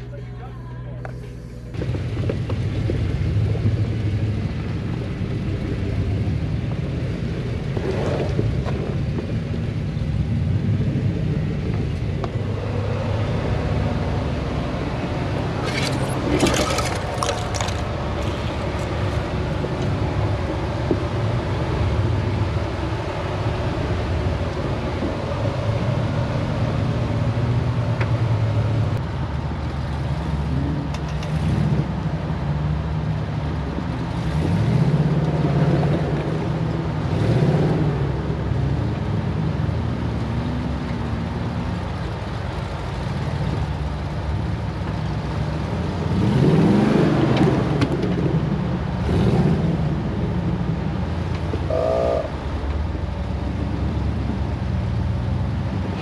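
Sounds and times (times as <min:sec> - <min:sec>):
engine low rumble: 0:00.0 - 0:56.0.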